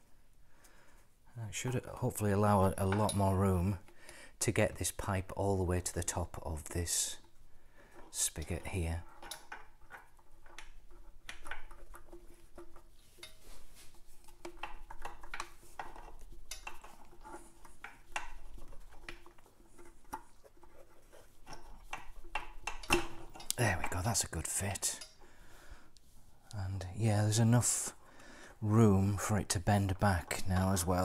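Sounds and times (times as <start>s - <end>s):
rubber hose clicking and rubbing: 0.6s - 28.0s, 28.6s - 31.0s.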